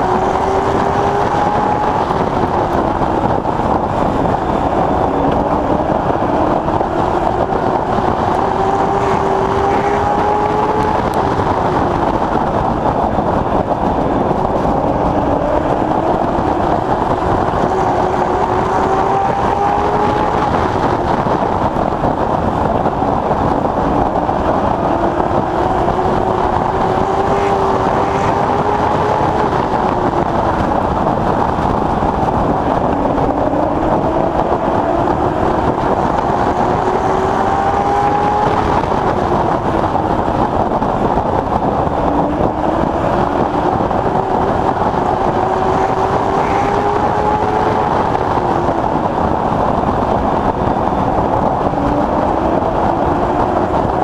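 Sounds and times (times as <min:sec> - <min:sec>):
race car engine revving: 0:00.0 - 0:54.0
steady rushing noise: 0:00.0 - 0:54.0.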